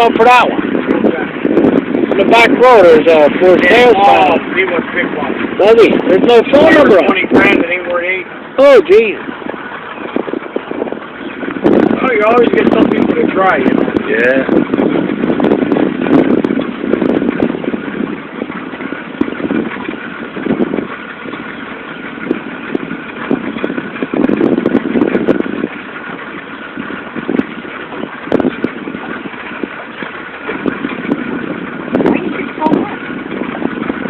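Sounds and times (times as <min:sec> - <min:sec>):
motorboat engine running: 0:00.0 - 0:34.0
water rushing noise: 0:00.0 - 0:34.0.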